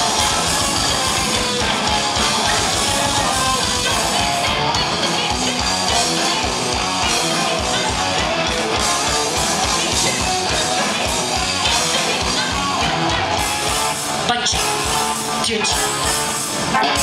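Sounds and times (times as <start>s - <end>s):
distorted electric guitar: 0.0s - 17.0s
rapid drum beats: 0.0s - 17.0s.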